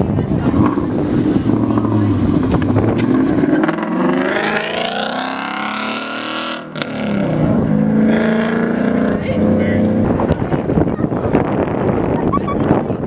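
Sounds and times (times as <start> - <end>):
car engine accelerating hard: 0.0 - 12.8.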